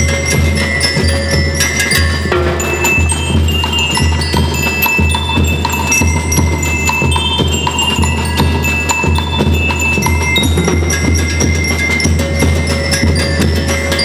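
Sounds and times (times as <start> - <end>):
bass drum beat: 0.0 - 14.0
bell lyre melody: 0.0 - 14.0
snare drums: 0.0 - 14.0.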